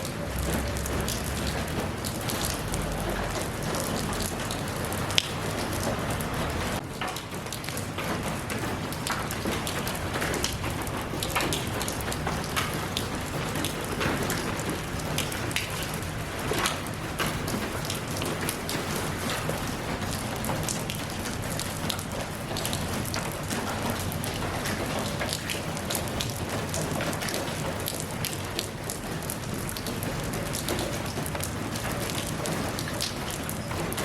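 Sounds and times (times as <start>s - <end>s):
raindrops pattering on a surface: 0.0s - 34.0s.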